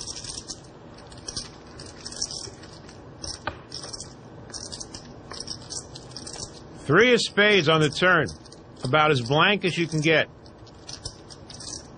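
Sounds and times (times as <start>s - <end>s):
poker chips clicking: 0.0s - 6.6s, 7.5s - 11.9s.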